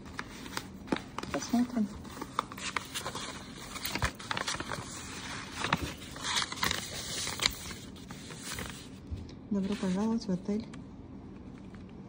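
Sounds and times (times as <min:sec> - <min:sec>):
paper rustling and crinkling: 0:00.0 - 0:10.2.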